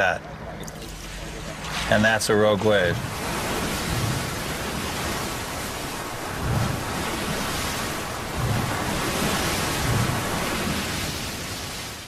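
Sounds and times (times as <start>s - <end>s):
waves roaring: 0.0s - 12.0s
wind: 0.0s - 12.0s.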